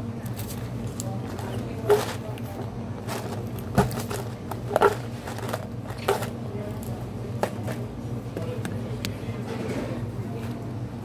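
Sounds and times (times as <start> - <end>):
restaurant dining room hum: 0.0 - 11.0.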